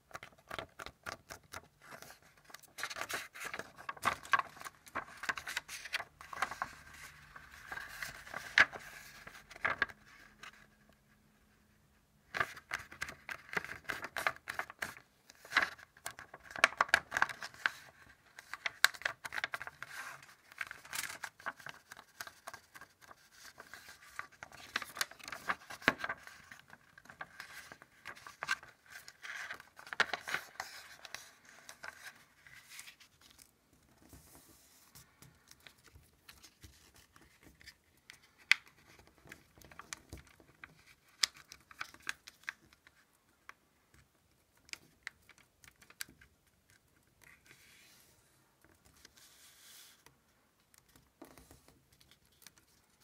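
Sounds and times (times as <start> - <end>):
paper crinkling and folding: 0.0 - 11.1, 12.2 - 53.0.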